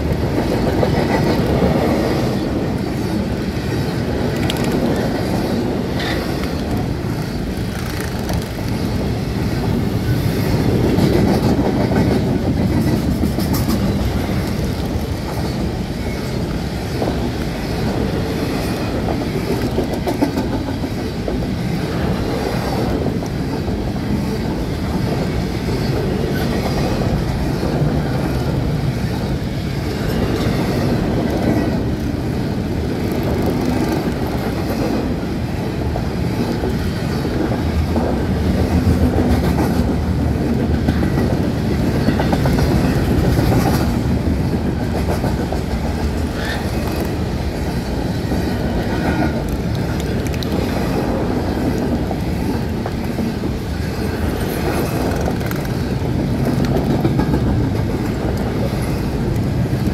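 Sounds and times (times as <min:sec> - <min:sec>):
train wheels rumbling on rail: 0:00.0 - 0:59.9
wheels clicking over rail joints: 0:00.0 - 0:59.9.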